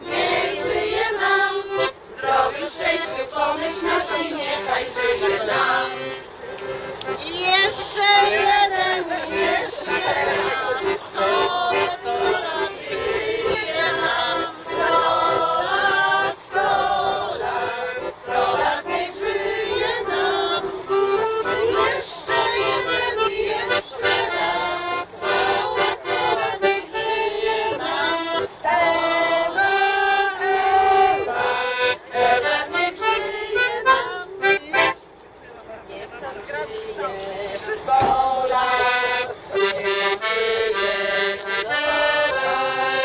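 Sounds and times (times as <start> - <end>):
accordion playing a tune: 0.0 - 35.3, 36.8 - 43.0.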